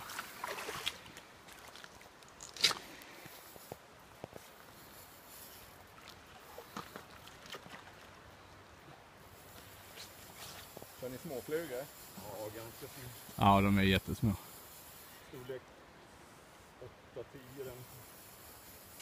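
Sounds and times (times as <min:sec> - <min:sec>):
river ambience: 0:00.0 - 0:19.0.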